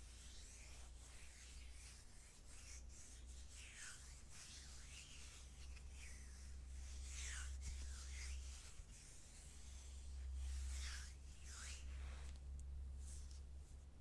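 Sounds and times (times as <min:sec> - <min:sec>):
hands rubbing on skin: 0:00.0 - 0:14.0.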